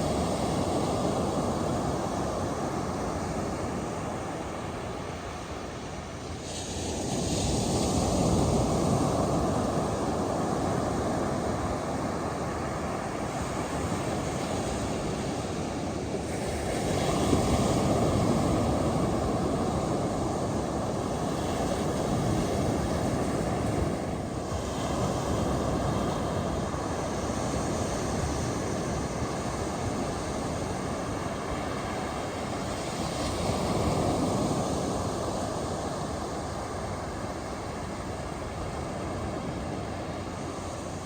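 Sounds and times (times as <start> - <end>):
ocean surf breaking on a beach: 0.0 - 41.0.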